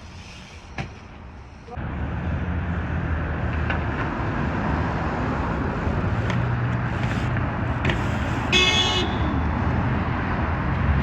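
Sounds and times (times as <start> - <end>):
road noise rushing: 0.0 - 11.0.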